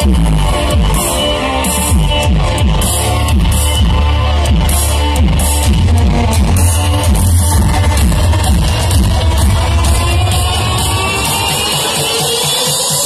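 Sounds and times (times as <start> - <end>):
loud music with heavy bass: 0.0 - 13.0.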